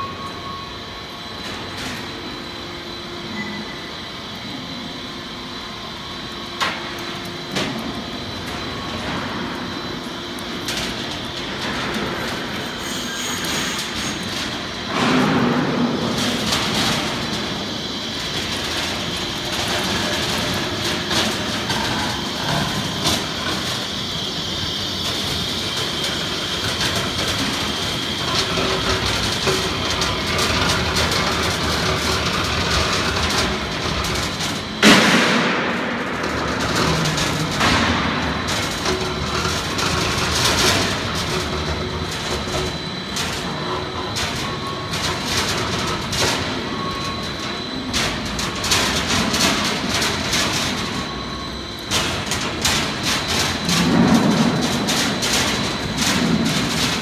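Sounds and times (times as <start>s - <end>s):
high machine whine: 0.0s - 57.0s
roll forming machine running: 0.0s - 57.0s.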